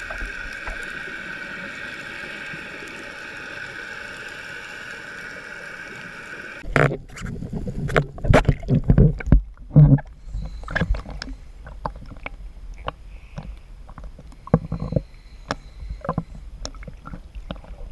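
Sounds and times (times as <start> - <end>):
muffled water gurgles: 0.0 - 17.9.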